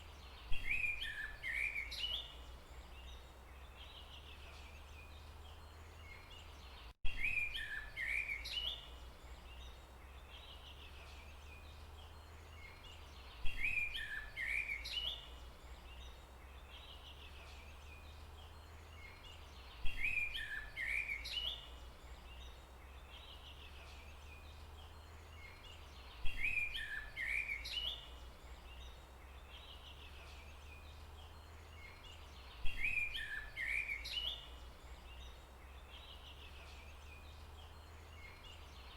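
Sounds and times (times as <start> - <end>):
bird chirping song: 0.0 - 38.9
low rumble of forest ambience: 0.0 - 38.9.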